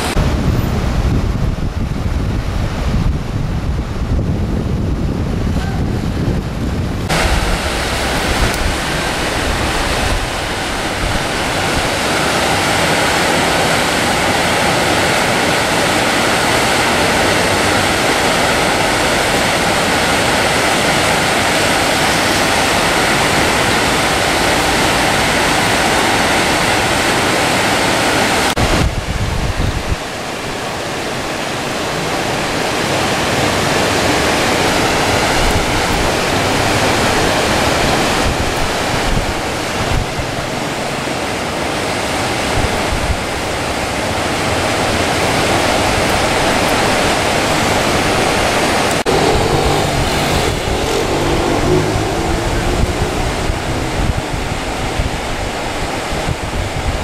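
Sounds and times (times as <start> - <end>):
heavy rain and rushing water: 0.0 - 57.0
wind rumble on microphone: 0.0 - 57.0.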